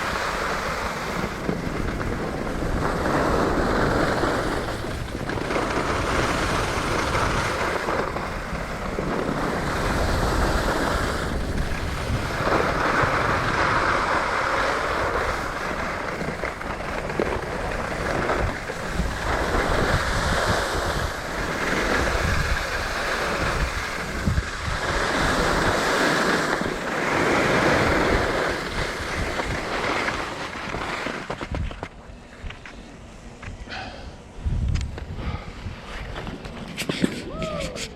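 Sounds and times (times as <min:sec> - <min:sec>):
wind on microphone: 0:00.0 - 0:32.7, 0:33.4 - 0:37.9
skis scraping over snow: 0:00.0 - 0:34.1.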